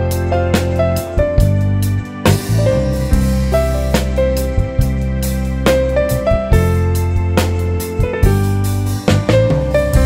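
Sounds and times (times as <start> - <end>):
keyboard melody: 0.0 - 10.0
steady drum beat: 0.0 - 10.0.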